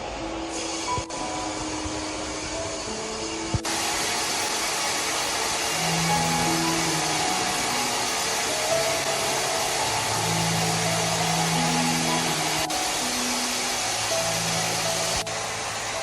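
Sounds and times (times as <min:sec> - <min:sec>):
background music: 0:00.0 - 0:16.0
whooshing machine noise: 0:00.0 - 0:16.0.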